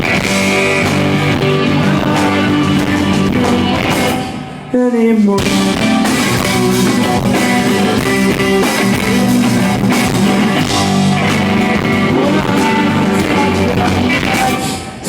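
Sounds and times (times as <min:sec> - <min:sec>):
rock band playing instrumental: 0:00.0 - 0:04.8, 0:05.4 - 0:15.0.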